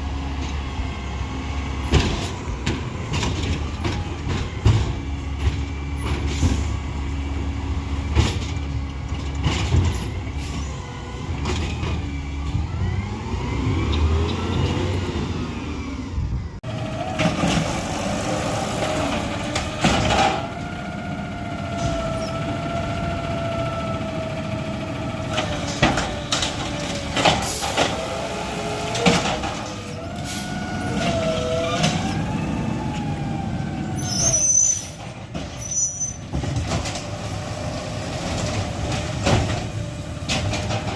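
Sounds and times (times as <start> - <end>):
truck engine rumbling: 0.0 - 40.9.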